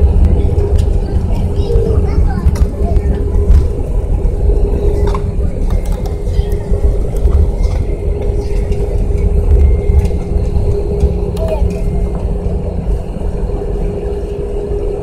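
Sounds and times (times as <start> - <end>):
airplane wheels and engines rumble: 0.0 - 15.0
steady hum: 0.0 - 15.0.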